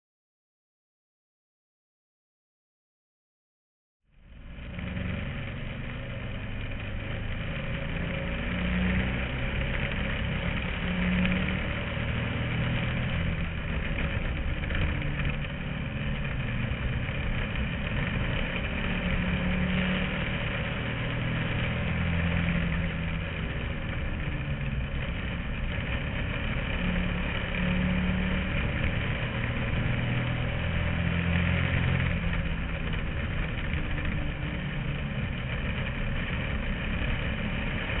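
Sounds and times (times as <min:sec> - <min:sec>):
small race car engine running: 0:04.2 - 0:38.0.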